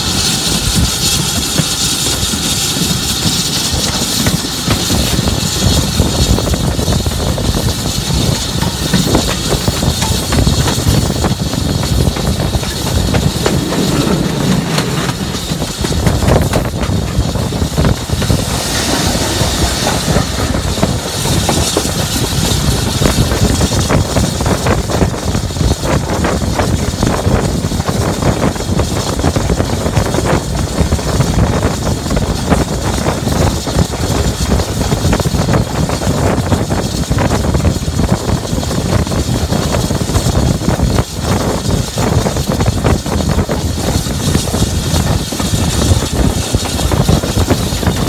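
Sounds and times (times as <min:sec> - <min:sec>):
steam hissing: 0:00.0 - 0:48.0
steam locomotive exhaust beats: 0:00.0 - 0:48.0
wheels clattering on rail joints: 0:00.0 - 0:48.0.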